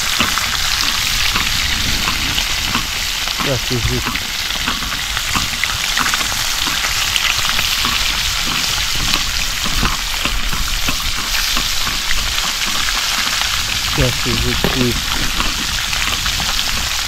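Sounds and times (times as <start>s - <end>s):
fish frying in bubbling oil: 0.0s - 17.0s
spatula in frying pan: 0.0s - 17.0s.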